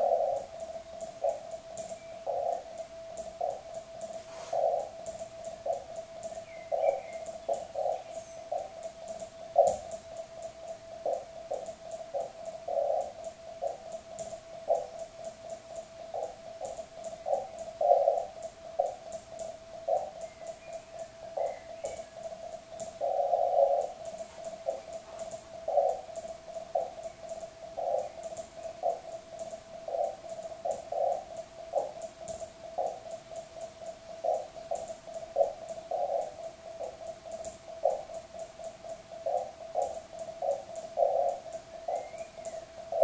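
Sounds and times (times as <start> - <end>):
faint high keying clicks: 0.0 - 43.0.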